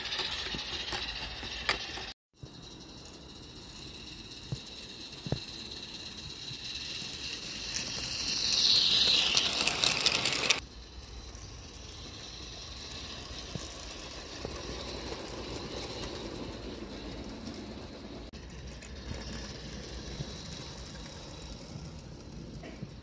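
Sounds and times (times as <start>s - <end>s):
steam locomotive hissing and exhaust beats: 0.0s - 23.0s
train running over track: 0.0s - 23.0s.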